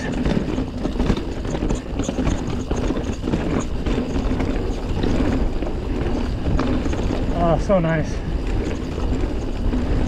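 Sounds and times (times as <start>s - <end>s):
bike tyres rushing on dirt: 0.0s - 10.0s
knocks and rattles of bike: 0.0s - 10.0s
wind rumbling on microphone: 0.0s - 10.0s.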